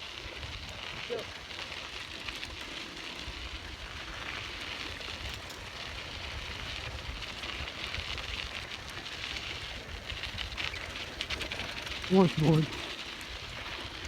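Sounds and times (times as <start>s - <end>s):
bicycle tyres on dirt road: 0.0s - 14.0s.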